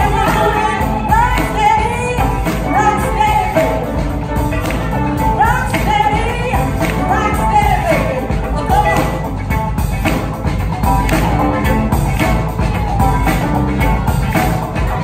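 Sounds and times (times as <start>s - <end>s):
drum kit beat: 0.0s - 15.0s
electric bass: 0.0s - 15.0s
live band playing rock-funk: 0.0s - 15.0s.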